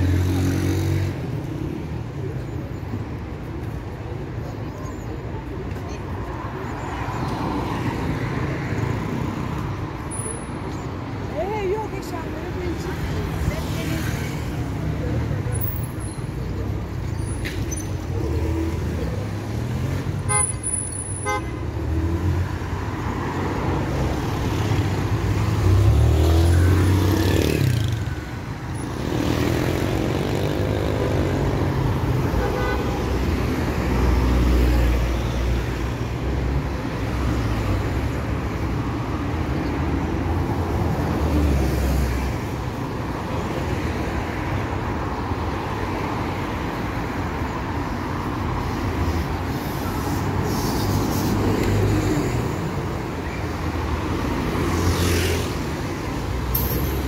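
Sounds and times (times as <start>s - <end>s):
traffic rumbling past: 5.2s - 57.0s.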